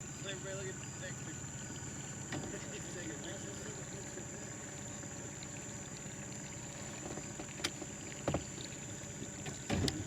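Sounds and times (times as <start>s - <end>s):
small boat engine rumble: 0.0s - 10.0s.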